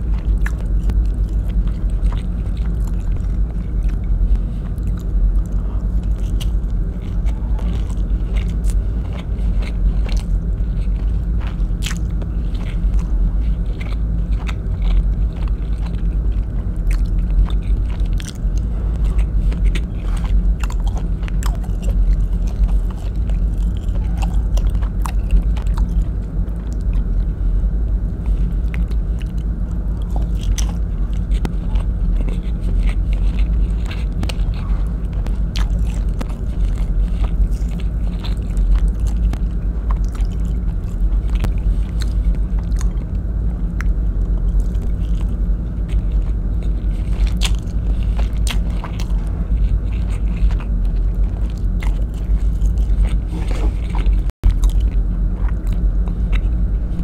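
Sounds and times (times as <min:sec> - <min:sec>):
chewing and mouth sounds: 0:00.0 - 0:57.0
low hum: 0:00.0 - 0:57.0.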